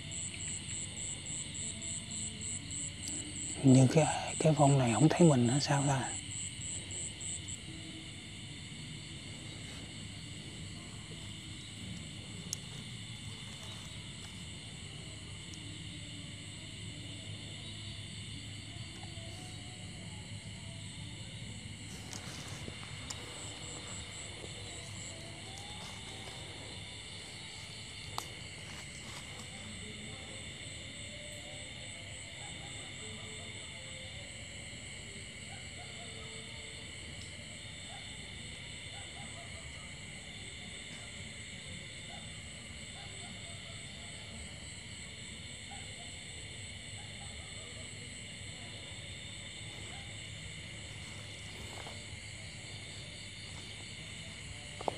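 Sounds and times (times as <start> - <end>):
night insects trilling: 0.0 - 54.9.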